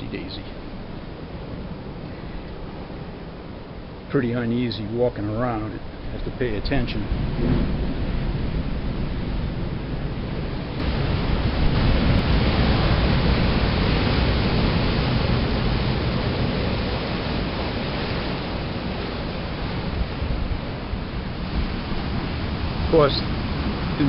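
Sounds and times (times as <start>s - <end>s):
surf breaking on rocks: 0.0s - 24.0s.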